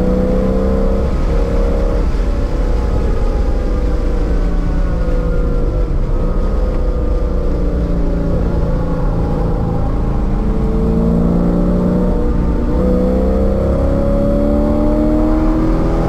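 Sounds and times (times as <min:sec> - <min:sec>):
car engine from inside cabin: 0:00.0 - 0:16.0.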